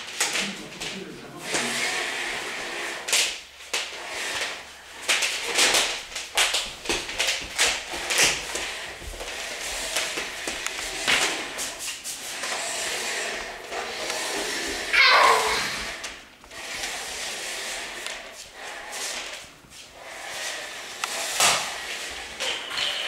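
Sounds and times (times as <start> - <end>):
computer mouse scraping on wooden floor: 0.0 - 23.0.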